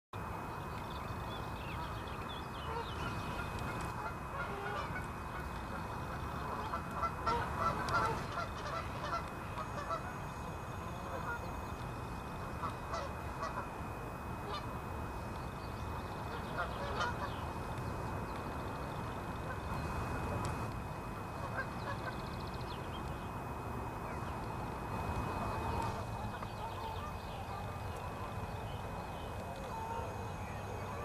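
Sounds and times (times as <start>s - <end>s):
geese honking: 1.7s - 23.3s, 23.9s - 31.0s.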